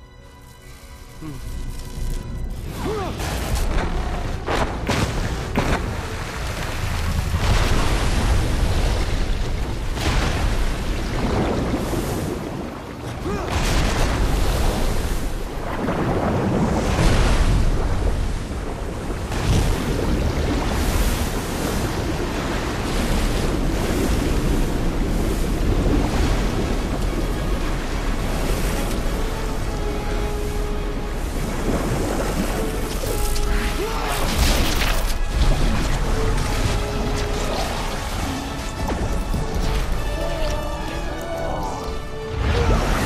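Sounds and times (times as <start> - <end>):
water rushing and surging: 0.0 - 43.0.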